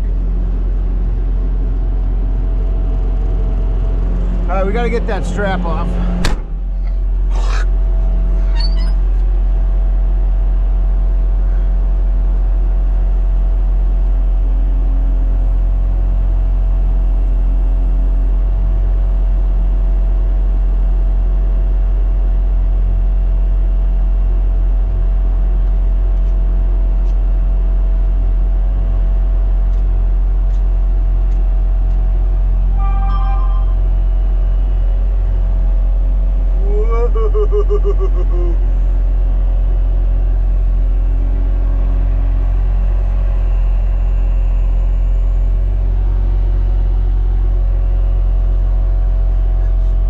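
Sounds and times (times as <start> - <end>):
diesel engine idling: 0.0 - 26.7, 27.4 - 50.0.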